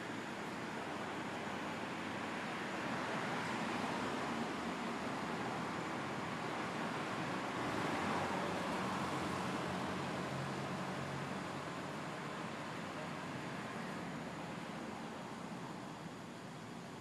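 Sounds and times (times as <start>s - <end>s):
vehicle engine hum passing: 0.0s - 16.4s
street traffic noise: 0.0s - 17.0s.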